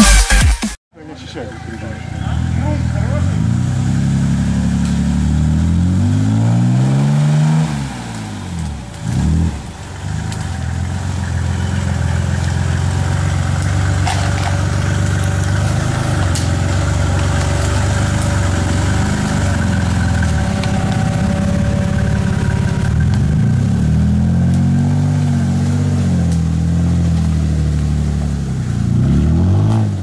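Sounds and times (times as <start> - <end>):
buggy engine revving: 1.1 - 30.0.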